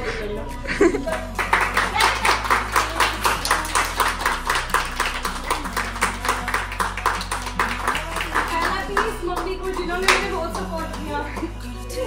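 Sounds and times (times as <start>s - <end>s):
background music with bass: 0.0s - 12.0s
people clapping in time: 1.1s - 11.6s.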